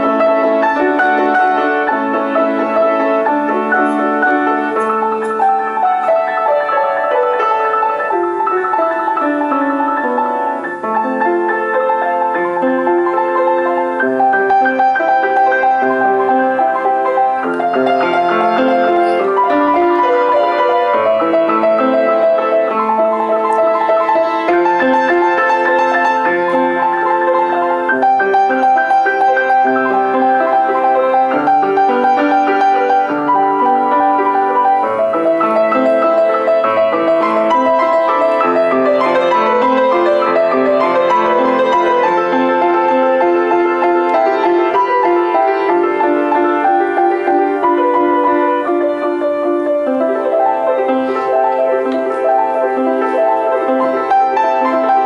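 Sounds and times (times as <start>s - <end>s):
solo piano playing: 0.0s - 55.0s.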